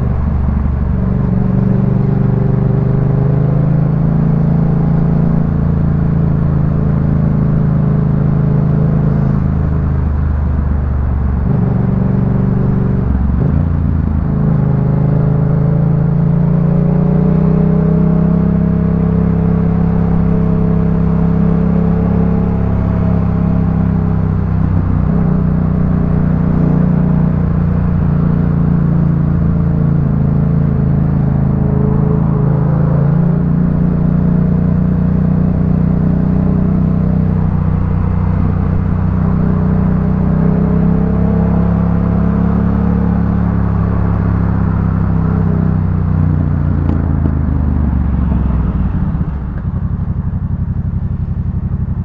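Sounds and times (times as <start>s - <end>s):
motorcycle engine deep exhaust note: 0.0s - 52.0s.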